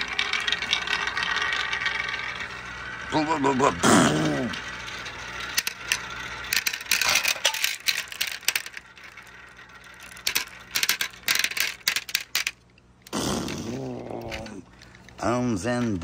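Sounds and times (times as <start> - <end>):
marbles clacking into plastic: 0.0 - 3.5, 4.1 - 16.0.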